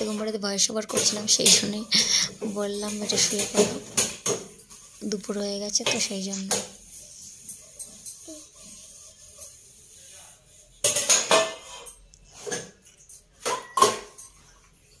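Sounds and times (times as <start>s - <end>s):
metal utensils clattering in a sink: 0.0s - 15.0s.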